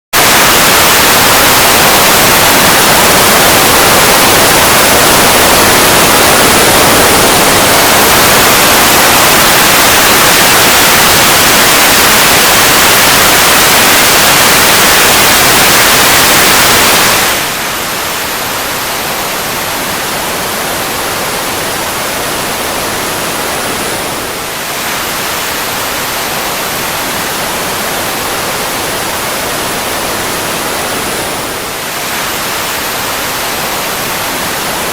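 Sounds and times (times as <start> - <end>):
fighter jet engine roar: 0.3 - 34.9.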